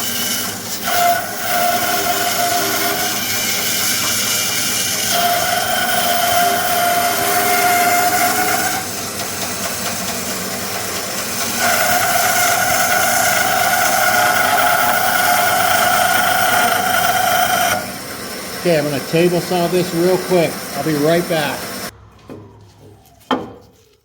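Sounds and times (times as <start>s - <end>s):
band saw cutting wood: 0.0s - 23.5s.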